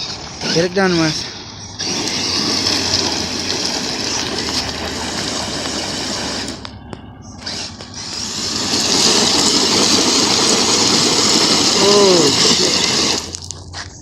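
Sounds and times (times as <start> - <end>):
toy truck motor whirring: 0.0 - 14.0.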